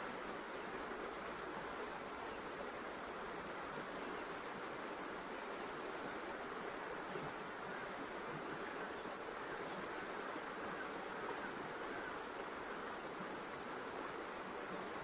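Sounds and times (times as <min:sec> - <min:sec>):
steady rushing outdoor noise: 0:00.0 - 0:15.0.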